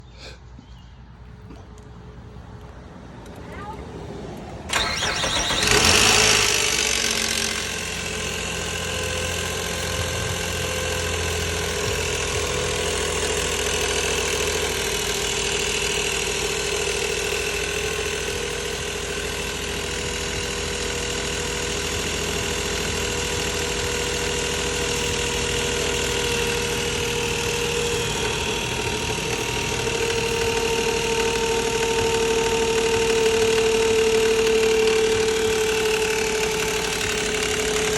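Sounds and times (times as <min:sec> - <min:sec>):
car engine starting and idling: 0:00.6 - 0:37.9
timing chain rattle: 0:05.7 - 0:37.9.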